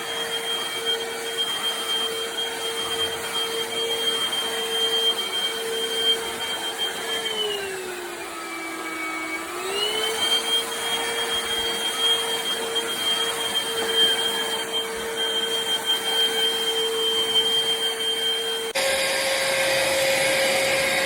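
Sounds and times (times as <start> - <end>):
stick vacuum motor whine: 0.0 - 21.0.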